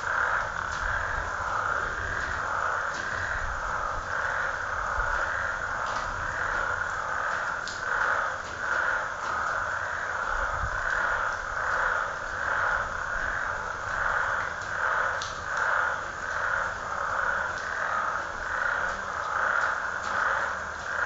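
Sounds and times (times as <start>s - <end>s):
frogs calling: 0.0s - 21.0s.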